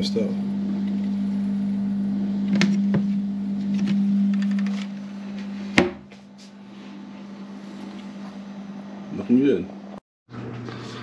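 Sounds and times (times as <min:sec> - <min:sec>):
portable fridge humming: 0:00.0 - 0:11.0.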